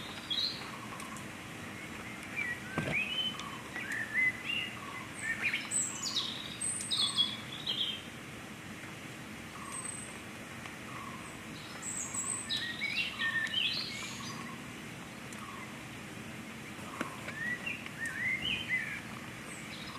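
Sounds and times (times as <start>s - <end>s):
wild birds chirping and singing: 0.0s - 8.6s, 9.4s - 19.9s
outdoor background hiss: 0.0s - 19.9s.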